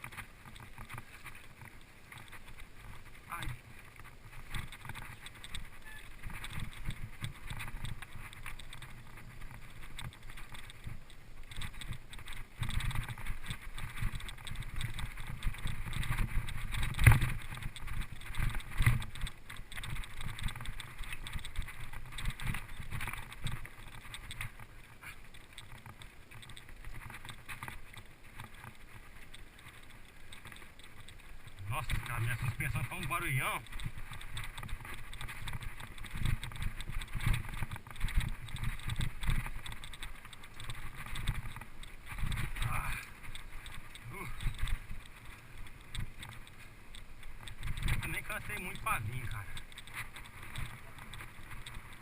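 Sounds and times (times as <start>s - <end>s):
bicycle frame rattling: 0.0s - 52.0s
bicycle tyres crunching on dirt: 0.0s - 52.0s.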